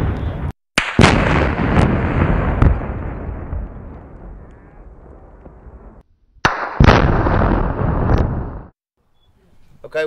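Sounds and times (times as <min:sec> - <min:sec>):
explosive blast rumble: 0:00.0 - 0:08.8
sharp crack: 0:00.2 - 0:08.8.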